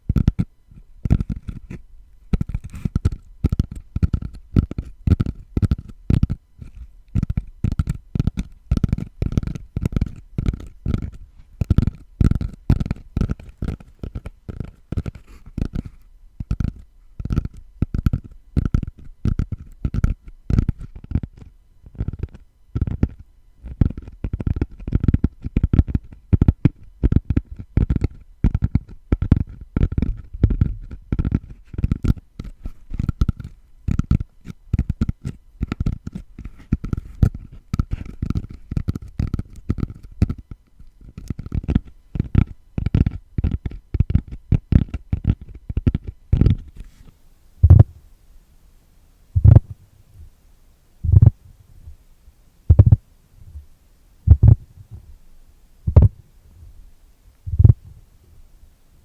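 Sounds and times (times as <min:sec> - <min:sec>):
fingers tapping on straw mat: 0:00.1 - 0:47.9, 0:49.4 - 0:49.8, 0:51.1 - 0:51.4, 0:52.7 - 0:53.0, 0:54.3 - 0:54.7, 0:55.9 - 0:56.2, 0:57.5 - 0:57.8.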